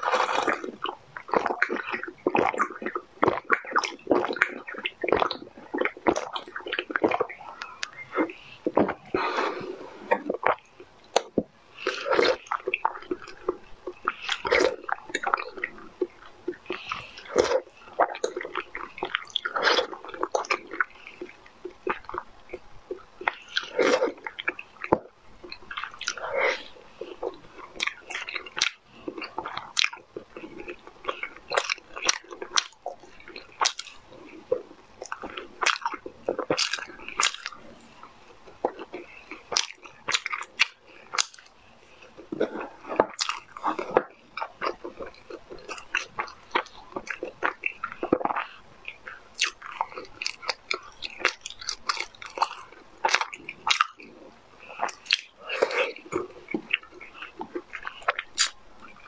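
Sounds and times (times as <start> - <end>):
person biting and chewing food: 0.0 - 59.0.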